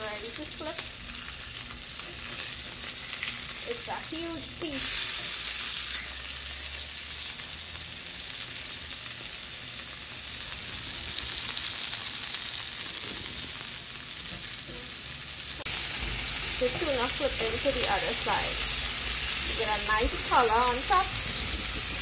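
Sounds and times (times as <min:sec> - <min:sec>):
fish sizzling in frying pan: 0:00.0 - 0:22.0.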